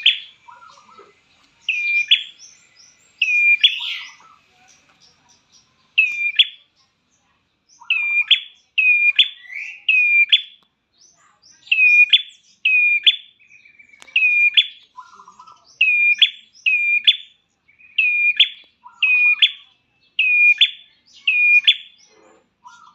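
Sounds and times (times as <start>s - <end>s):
bird sharp high chirps: 0.0s - 1.0s, 1.6s - 6.8s, 7.6s - 22.9s.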